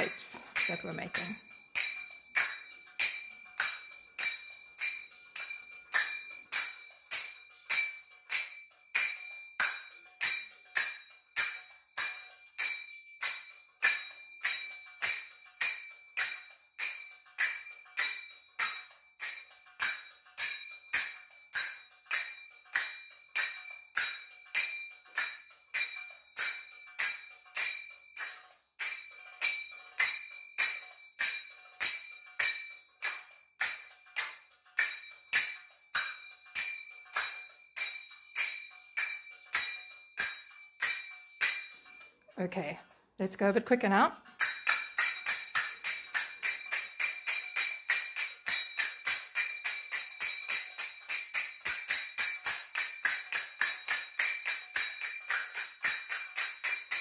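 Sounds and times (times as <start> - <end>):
finger cymbals striking: 0.0 - 42.2, 44.2 - 57.0.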